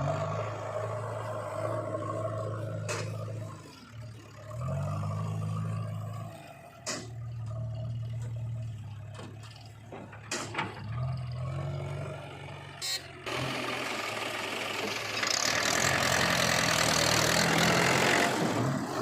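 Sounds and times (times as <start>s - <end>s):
heavy machinery diesel engine revving: 0.0s - 9.1s, 10.4s - 19.0s.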